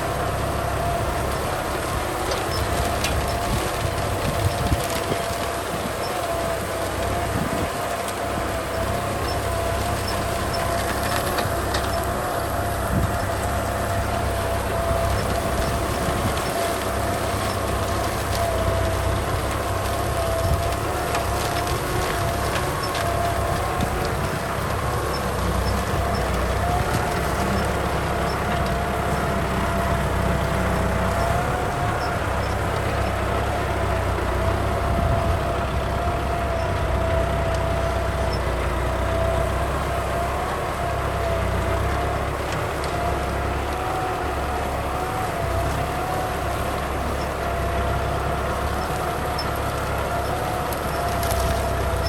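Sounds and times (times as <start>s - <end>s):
tractor diesel engine drone: 0.0s - 52.0s.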